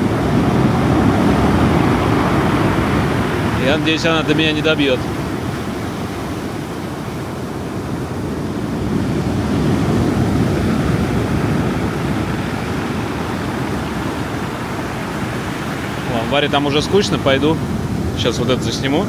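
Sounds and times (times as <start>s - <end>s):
surf breaking on pebble beach: 0.0s - 19.0s.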